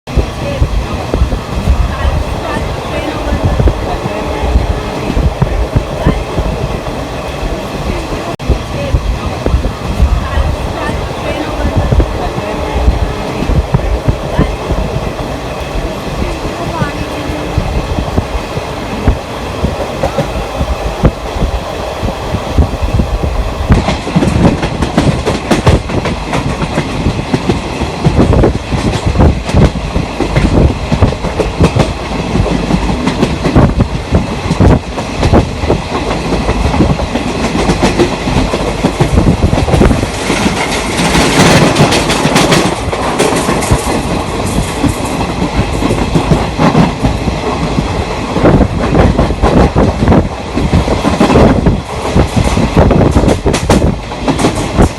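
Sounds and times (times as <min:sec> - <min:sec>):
train rumbling on track: 0:00.0 - 0:54.9.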